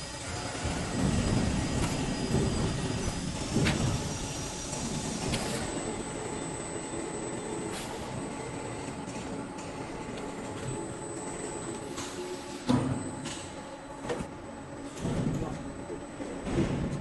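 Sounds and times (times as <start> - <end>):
machine rumble and whir: 0.0 - 17.0.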